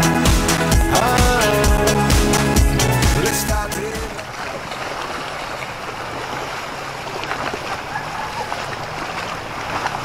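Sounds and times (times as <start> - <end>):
swimmer splashing: 0.0 - 10.0
water splashing and lapping: 0.0 - 10.0.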